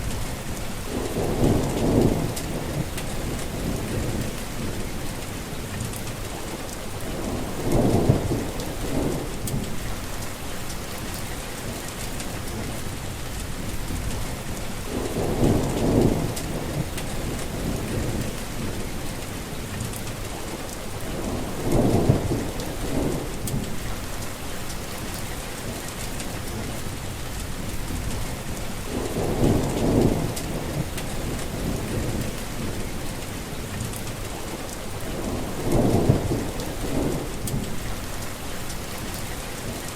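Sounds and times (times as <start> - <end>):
heavy rain pouring: 0.0 - 39.9
low rumbles of thunder: 0.0 - 39.9.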